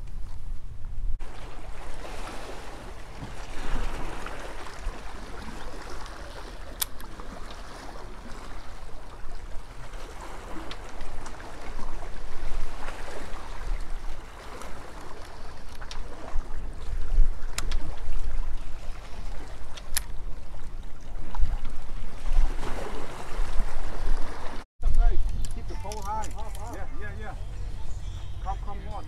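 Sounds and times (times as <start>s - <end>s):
wind rumbling on microphone: 0.0s - 29.0s
waves splashing against rocks: 1.2s - 24.6s.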